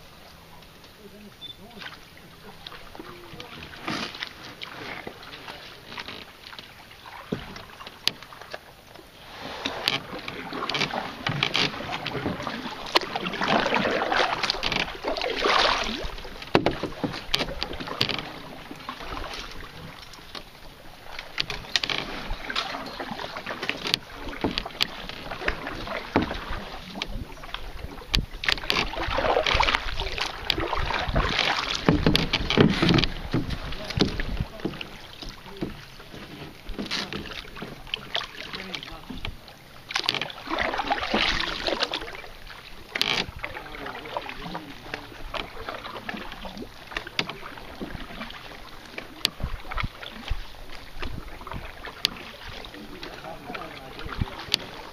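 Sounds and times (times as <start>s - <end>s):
paddle strokes splashing in water: 0.0s - 54.9s.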